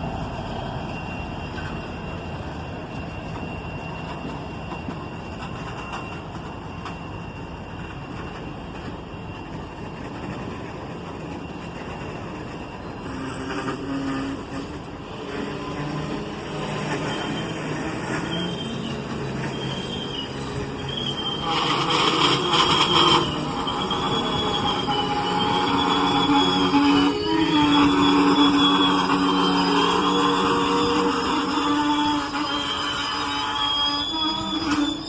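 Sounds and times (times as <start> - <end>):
diesel locomotive engine rumble: 0.0 - 35.0
train rail noise: 0.0 - 35.0.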